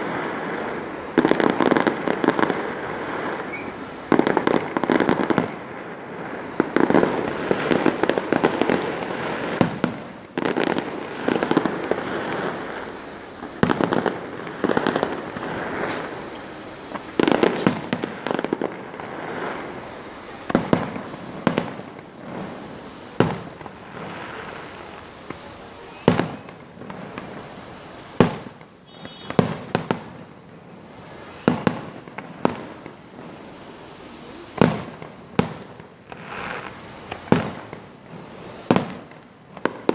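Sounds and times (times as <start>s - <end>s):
firework shells bursting: 0.0s - 33.5s
fireworks crackling: 0.0s - 39.9s.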